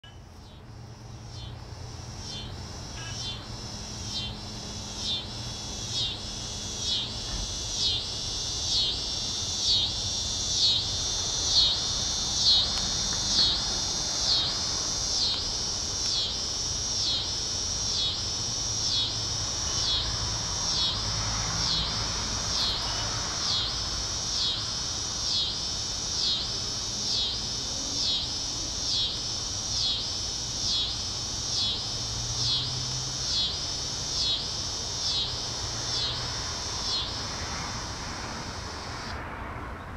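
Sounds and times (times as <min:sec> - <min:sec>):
cicada rasping buzz: 0:00.0 - 0:39.9.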